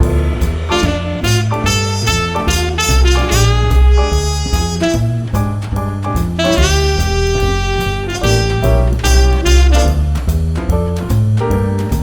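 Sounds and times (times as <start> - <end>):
upbeat jazz music: 0.0 - 12.0.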